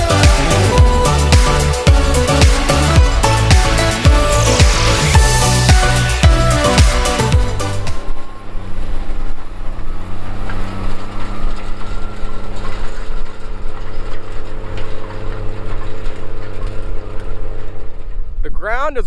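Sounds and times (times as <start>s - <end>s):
tractor diesel engine under load: 0.0s - 18.9s.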